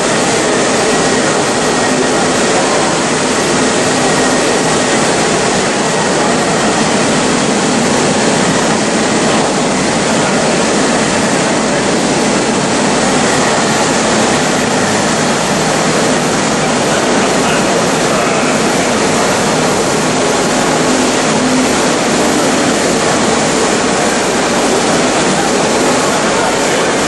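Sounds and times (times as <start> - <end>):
finishing machine rushing noise: 0.0 - 27.0.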